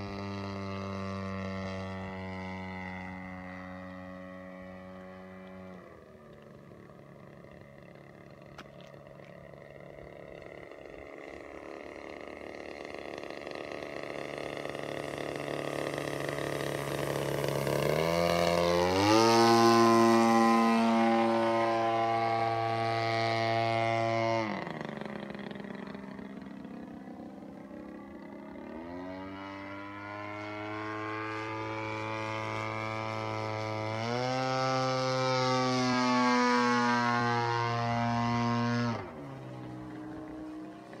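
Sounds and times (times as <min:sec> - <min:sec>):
model airplane engine: 0:00.0 - 0:41.0.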